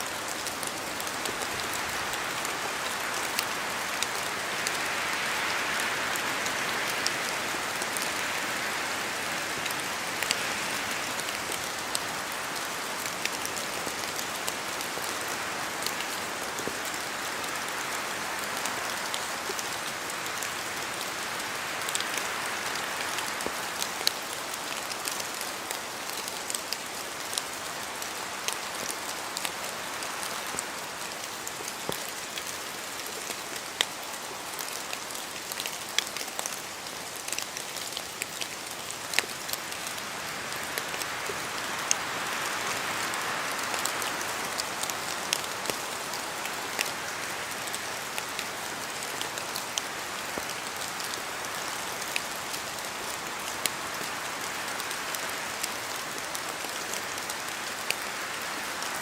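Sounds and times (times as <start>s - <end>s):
rain drops ticking on leaves: 0.0s - 59.0s
rain hiss: 0.0s - 59.0s.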